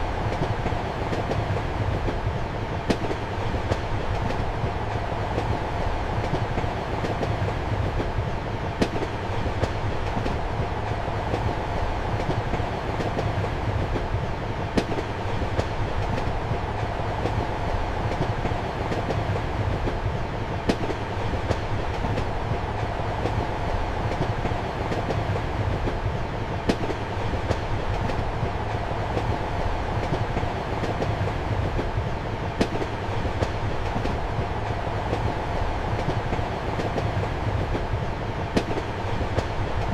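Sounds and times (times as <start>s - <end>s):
train rumble and hum: 0.0s - 39.9s.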